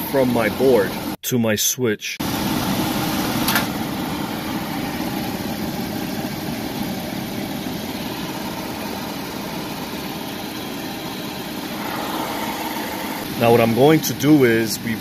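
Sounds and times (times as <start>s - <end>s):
furnace motor humming: 0.0s - 1.2s, 2.2s - 15.0s.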